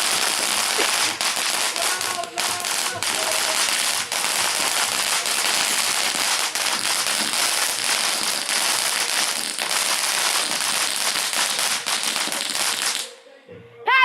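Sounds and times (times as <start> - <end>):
firework crackling and hissing: 0.0 - 13.1.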